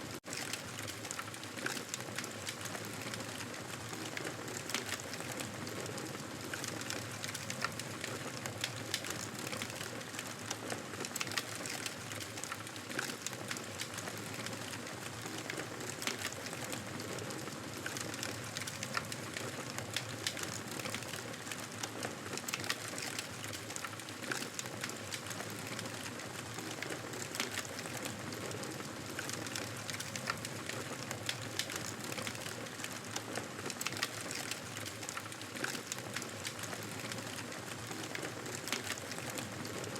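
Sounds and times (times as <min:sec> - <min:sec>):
campfire crackles and pops: 0:00.1 - 0:39.9.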